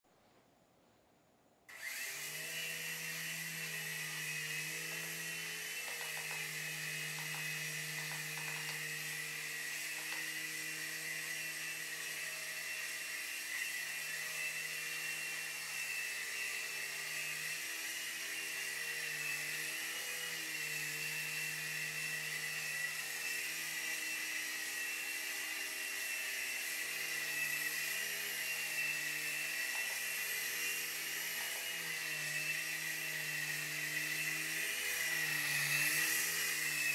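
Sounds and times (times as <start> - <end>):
rc helicopter motor whine: 1.7 - 36.9.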